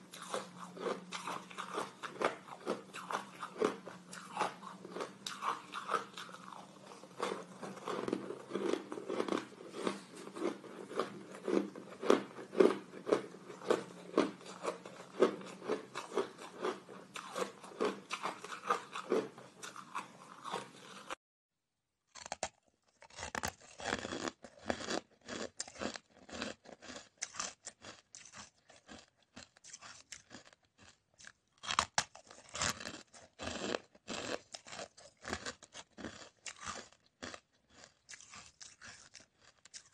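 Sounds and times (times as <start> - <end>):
ice being crunched and chewed: 0.1 - 21.2, 22.1 - 39.9.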